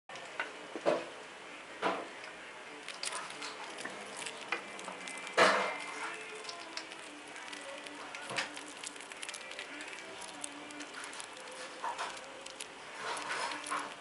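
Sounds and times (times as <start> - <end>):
chipmunk handling food: 2.7 - 14.0.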